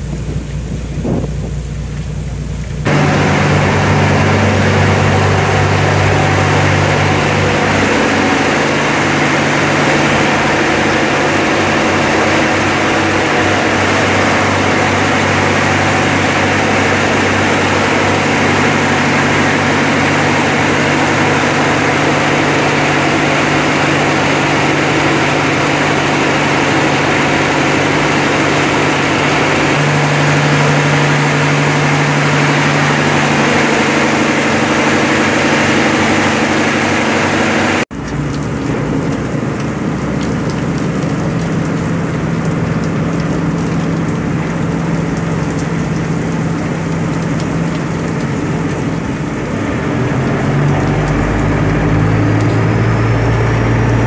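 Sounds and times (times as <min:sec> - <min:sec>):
diesel engines droning: 0:00.0 - 0:54.0
heavy rain: 0:00.0 - 0:54.0.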